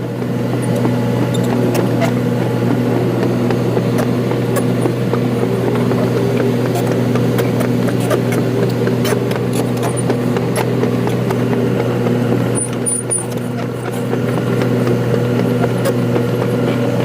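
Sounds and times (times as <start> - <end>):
diesel engine running: 0.0 - 17.0
sharp clicks and knocks: 0.1 - 17.0.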